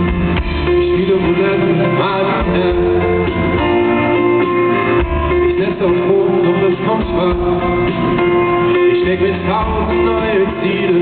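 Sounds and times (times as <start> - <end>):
acoustic guitar: 0.0 - 11.0
drums: 0.0 - 11.0
keyboard: 0.0 - 11.0
person singing: 0.6 - 3.7, 5.3 - 11.0.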